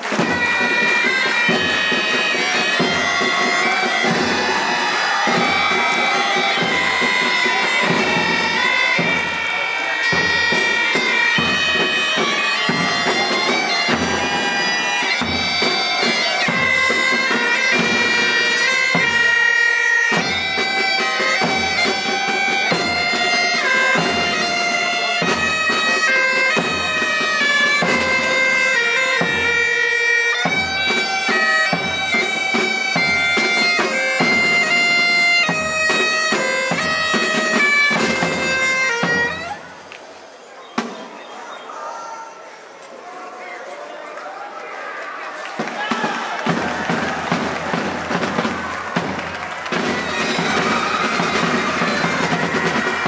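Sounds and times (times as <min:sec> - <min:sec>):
bagpipes playing a melody: 0:00.0 - 0:39.7, 0:47.3 - 0:53.0.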